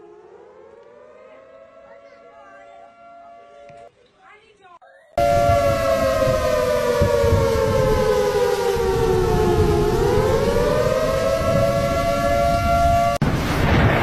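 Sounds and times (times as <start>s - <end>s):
two-tone siren wailing: 0.0s - 3.9s, 5.2s - 13.2s.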